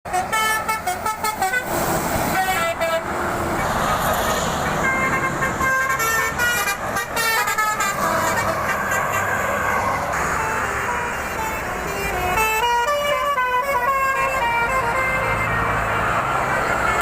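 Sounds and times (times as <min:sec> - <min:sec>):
road and engine noise: 0:00.0 - 0:17.0
multi-tone musical air horn: 0:00.1 - 0:03.7, 0:04.6 - 0:16.0.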